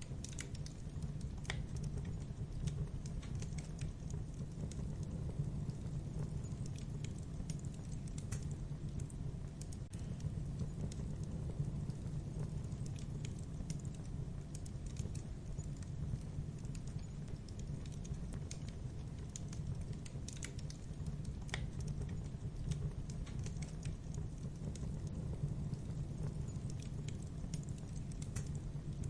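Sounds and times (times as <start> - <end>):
fire crackling and snapping: 0.0 - 29.0
fire rumbling: 0.0 - 29.0.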